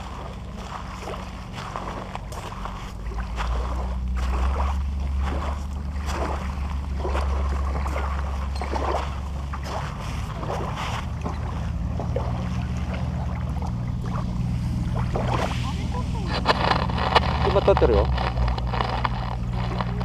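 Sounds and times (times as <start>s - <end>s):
boat engine humming: 0.0s - 20.0s
water splashing: 0.0s - 20.0s.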